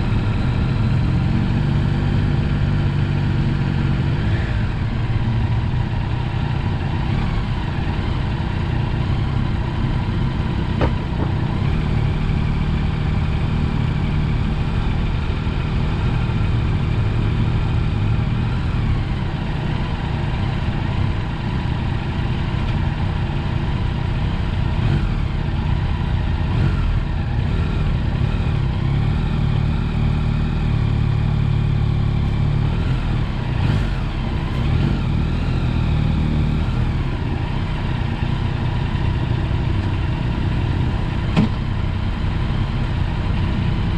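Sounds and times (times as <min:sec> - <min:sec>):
motorcycle engine running: 0:00.0 - 0:43.9
wind and road noise: 0:00.0 - 0:43.9.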